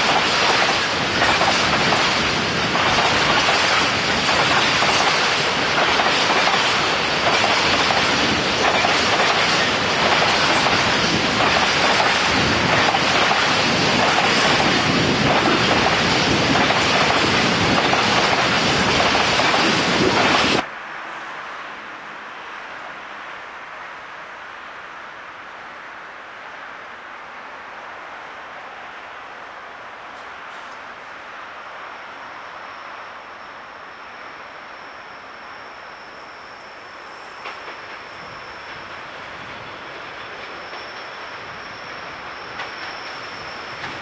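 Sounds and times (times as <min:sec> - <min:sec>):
freight train wheels rumbling on rails: 0:00.0 - 0:44.0.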